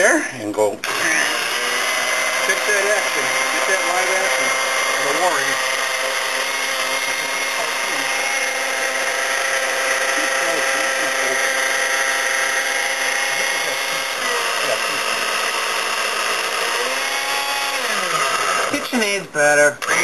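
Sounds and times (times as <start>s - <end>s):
blender crushing ice: 0.8s - 20.0s.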